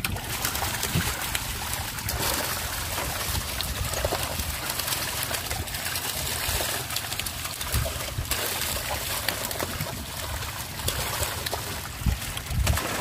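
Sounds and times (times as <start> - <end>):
fish thrashing in water: 0.0 - 13.0
water running through basket: 0.0 - 13.0.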